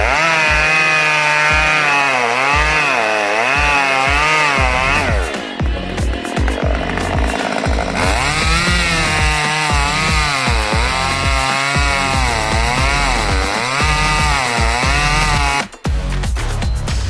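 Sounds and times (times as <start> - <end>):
bass drum beat: 0.0 - 17.0.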